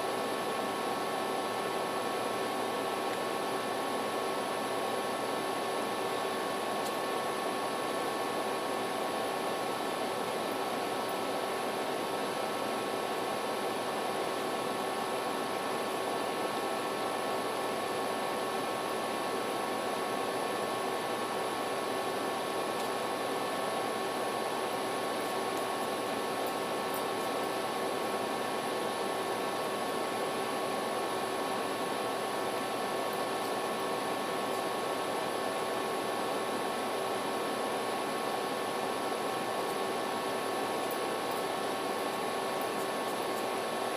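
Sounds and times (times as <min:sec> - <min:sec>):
faint hum tones: 0:00.0 - 0:43.9.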